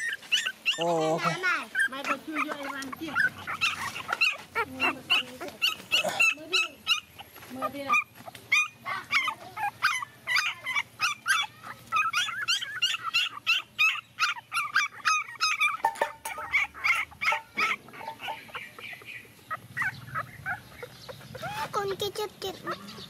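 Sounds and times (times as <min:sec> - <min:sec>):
puppies yelping: 0:00.0 - 0:23.0.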